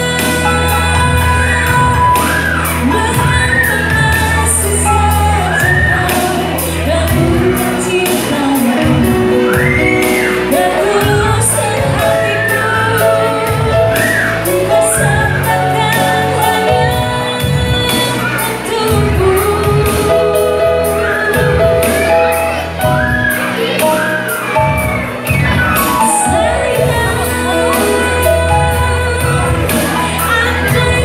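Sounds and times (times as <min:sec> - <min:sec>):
electronic keyboard bass notes: 0:00.0 - 0:31.0
woman singing into a microphone: 0:00.0 - 0:31.0.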